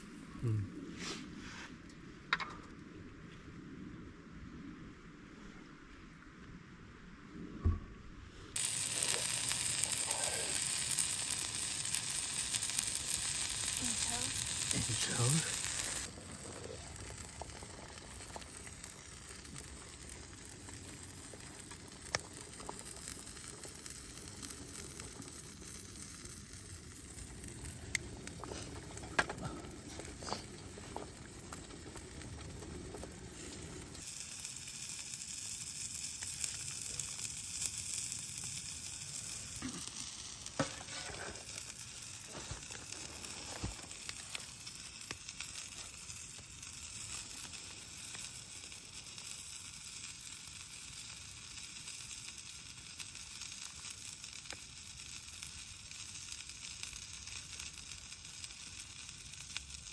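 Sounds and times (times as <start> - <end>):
food sizzling in a pan: 8.6 - 59.9.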